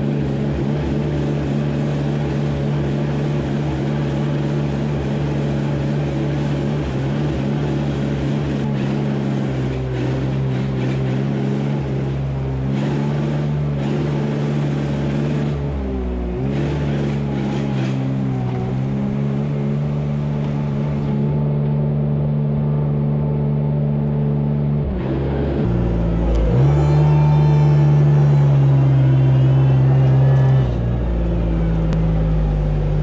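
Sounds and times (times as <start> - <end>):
diesel engines running: 0.0 - 33.0.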